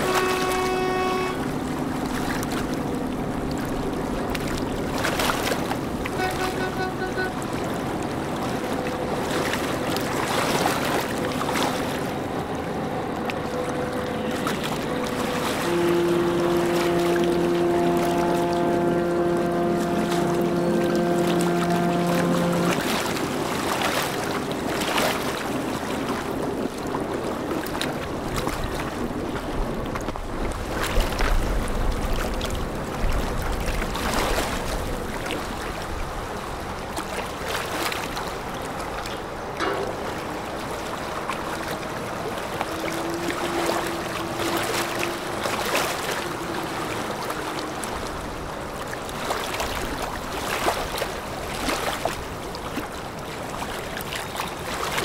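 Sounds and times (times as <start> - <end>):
faint boat engine hum: 0.0 - 55.0
water washing: 0.0 - 55.0.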